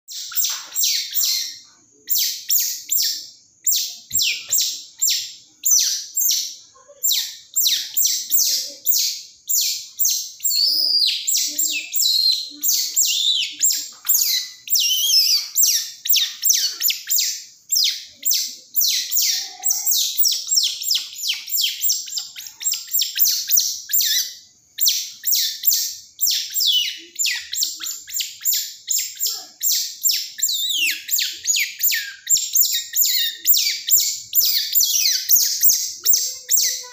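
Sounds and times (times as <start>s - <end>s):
baby otter squeaking: 0.1s - 36.9s.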